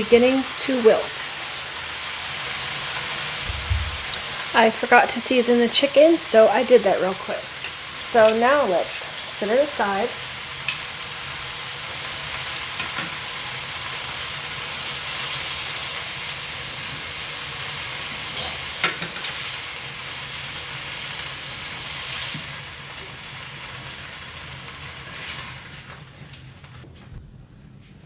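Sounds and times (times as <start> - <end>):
chicken sizzling in skillet: 0.0 - 26.8.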